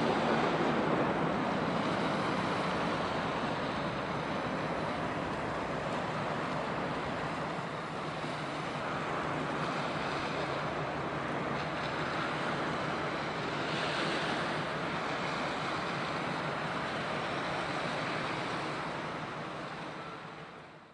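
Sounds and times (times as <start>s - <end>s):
sea noise: 0.0s - 20.9s
wind: 0.0s - 20.9s.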